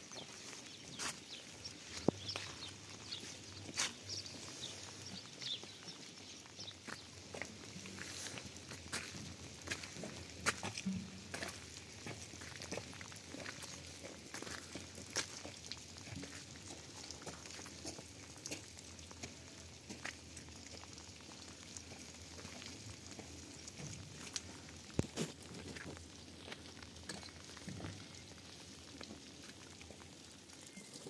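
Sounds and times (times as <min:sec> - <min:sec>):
rain pattering: 0:00.0 - 0:31.0
water dripping: 0:00.1 - 0:31.0.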